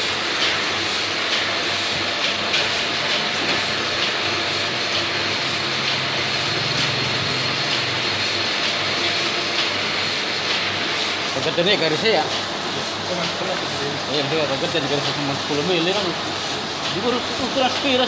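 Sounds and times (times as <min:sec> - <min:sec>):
printer mechanical whir: 0:00.0 - 0:18.0.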